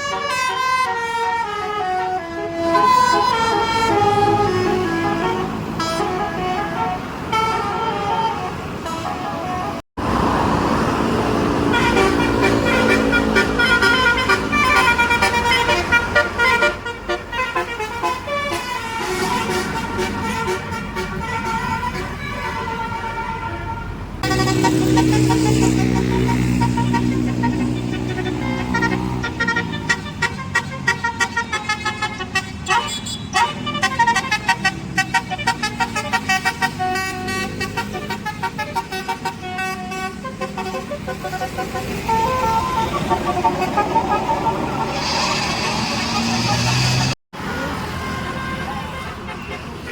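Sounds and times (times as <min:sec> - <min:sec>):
multi-tone bus horn melody: 0:00.0 - 0:09.8, 0:11.6 - 0:49.9.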